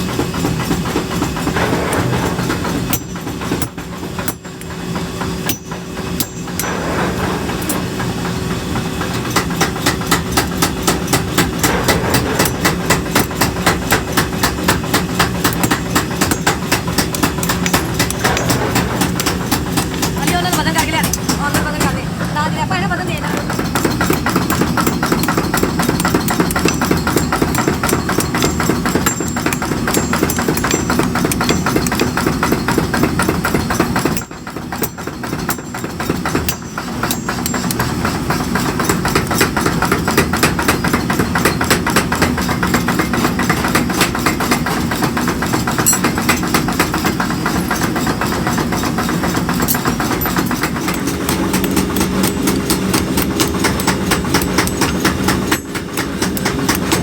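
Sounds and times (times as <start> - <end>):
machinery fast even knocking: 0.0 - 57.0
machinery low hum: 0.0 - 57.0.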